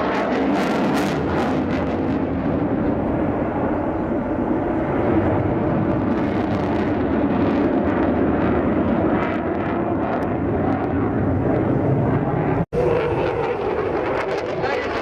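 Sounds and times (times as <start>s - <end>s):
fighter jet engines roaring: 0.0s - 15.0s.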